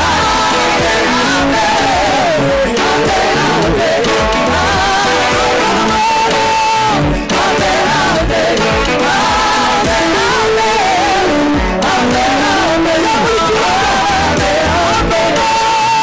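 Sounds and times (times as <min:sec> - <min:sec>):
group singing gospel music: 0:00.0 - 0:16.0
keyboard: 0:00.0 - 0:16.0.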